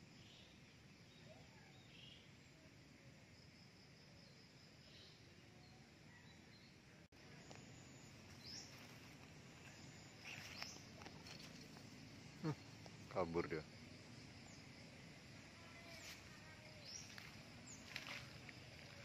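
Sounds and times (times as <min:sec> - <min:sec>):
insect calls: 0:00.0 - 0:19.0.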